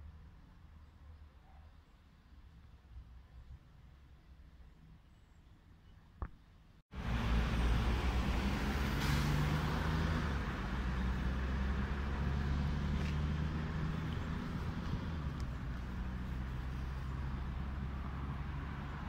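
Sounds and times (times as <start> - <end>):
faint street ambience: 0.0 - 19.0
road traffic: 0.0 - 19.0.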